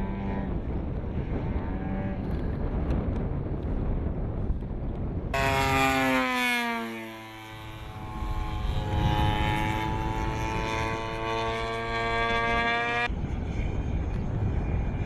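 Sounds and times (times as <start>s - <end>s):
model aircraft engine: 0.0s - 15.0s.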